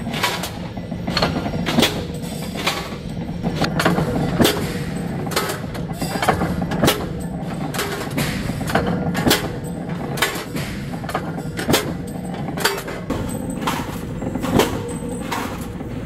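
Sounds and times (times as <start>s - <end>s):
punch press motor hum: 0.0s - 16.0s.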